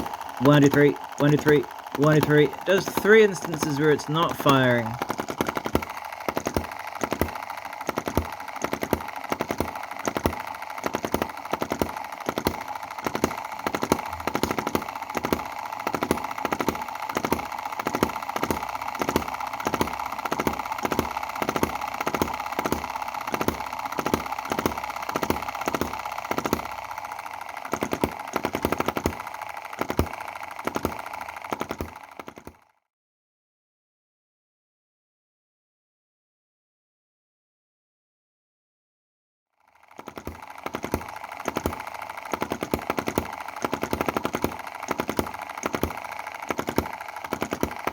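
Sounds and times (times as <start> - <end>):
small gasoline engine knocking: 0.0 - 32.8, 39.6 - 47.9.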